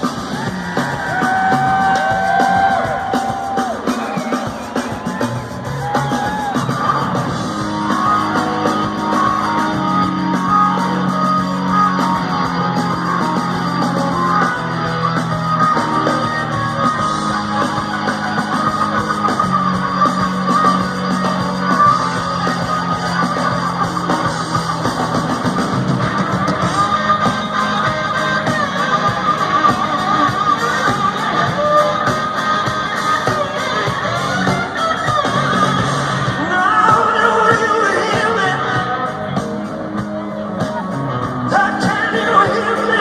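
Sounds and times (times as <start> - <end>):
distorted electric guitar: 0.0 - 43.0
drums: 0.0 - 43.0
bass notes: 4.7 - 43.0.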